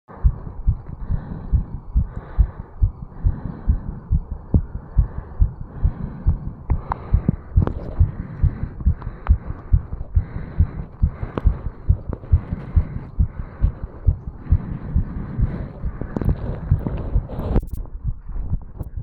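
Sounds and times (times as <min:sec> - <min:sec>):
heartbeat thumps: 0:00.1 - 0:19.0.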